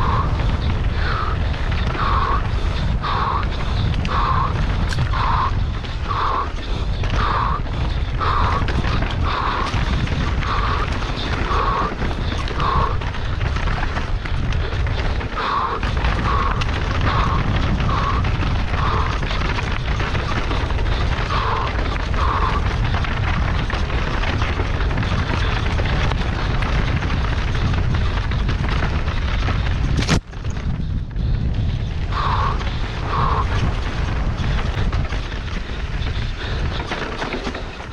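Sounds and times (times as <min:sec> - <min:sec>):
wind buffeting and trail rumble: 0:00.0 - 0:37.9.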